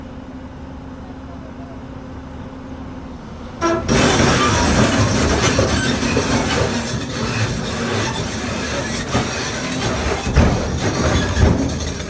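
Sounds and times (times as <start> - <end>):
heavy machinery engine hum: 1.0 - 12.0.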